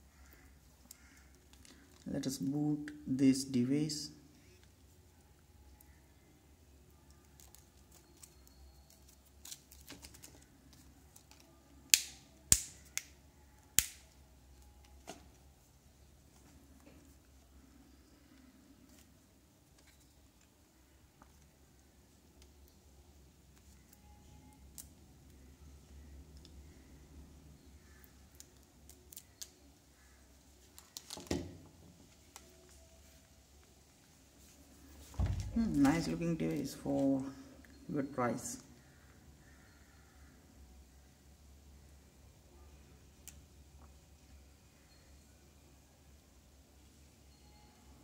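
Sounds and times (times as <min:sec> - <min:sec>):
faint low hum: 0:00.0 - 0:48.0.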